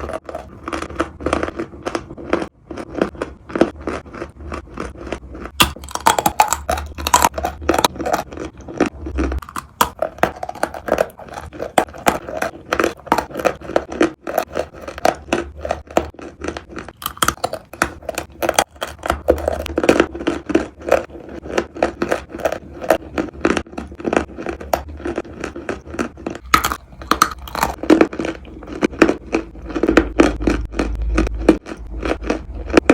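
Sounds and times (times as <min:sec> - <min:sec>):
chewing chalk crunches: 0:00.0 - 0:32.9.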